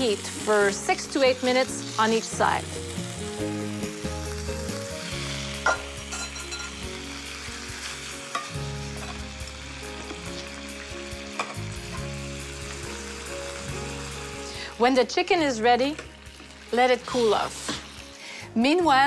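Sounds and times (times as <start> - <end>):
chicken sizzling in a skillet: 0.0 - 19.0.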